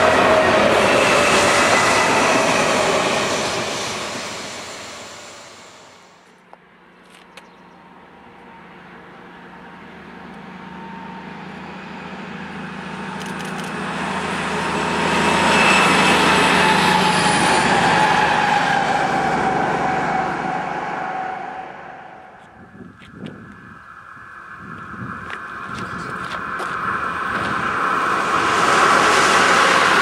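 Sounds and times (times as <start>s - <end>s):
diesel locomotive engine drone: 0.0s - 30.0s
train rail noise: 0.0s - 30.0s.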